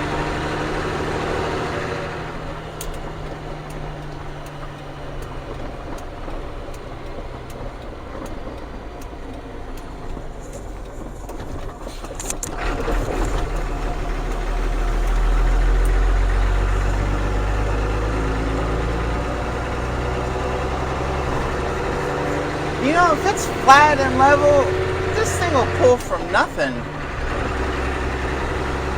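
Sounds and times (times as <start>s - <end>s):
diesel truck engine: 0.0s - 28.9s.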